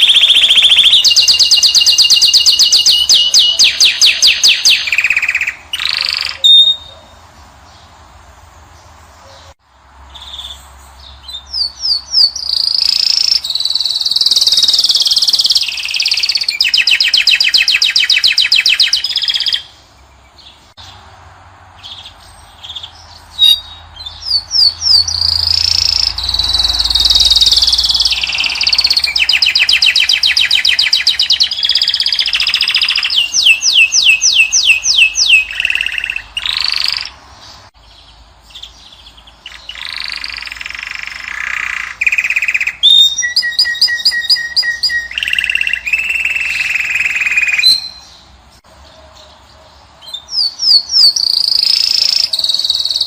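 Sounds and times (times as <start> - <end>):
finch singing: 0.0 - 8.0, 8.6 - 21.0, 21.8 - 53.0.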